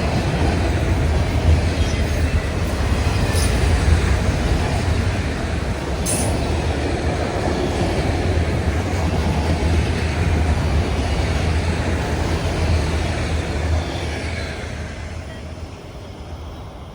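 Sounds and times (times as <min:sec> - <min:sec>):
train wheels rumbling on rail: 0:00.0 - 0:16.9.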